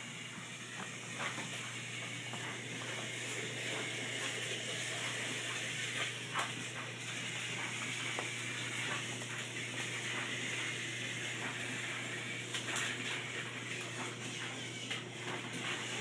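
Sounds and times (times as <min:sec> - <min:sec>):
toy trains clicking on plastic track: 0:00.0 - 0:16.0.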